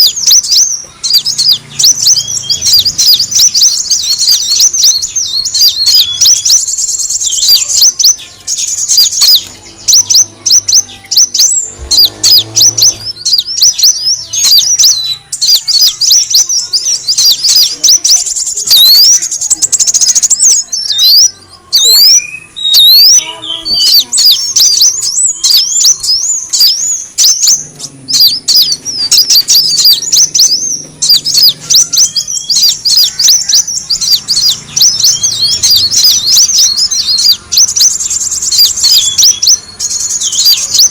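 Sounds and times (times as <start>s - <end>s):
sunbird twittering chirps: 0.0s - 40.9s.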